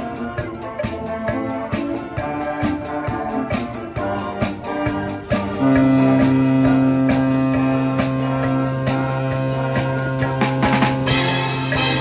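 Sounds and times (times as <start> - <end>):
brass band playing: 0.0 - 12.0
drum kit steady beat: 0.0 - 12.0.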